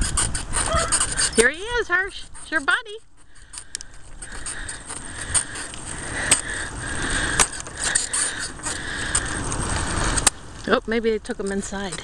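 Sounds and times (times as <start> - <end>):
bicycle rolling over rough asphalt: 0.0 - 12.0
bike basket rattling and clicking: 0.0 - 12.0.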